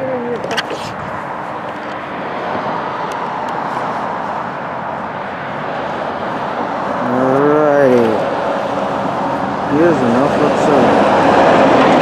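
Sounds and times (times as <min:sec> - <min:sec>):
passing road traffic: 0:00.0 - 0:12.0.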